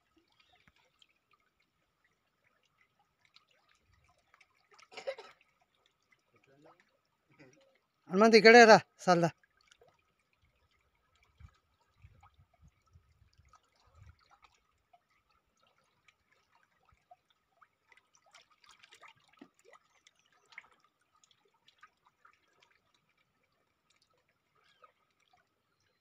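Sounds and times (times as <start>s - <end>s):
water lapping and dripping: 0.0s - 26.0s.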